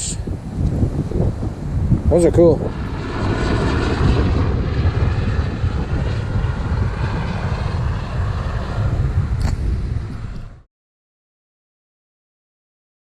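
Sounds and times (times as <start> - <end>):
strong wind buffeting microphone: 0.0 - 10.7.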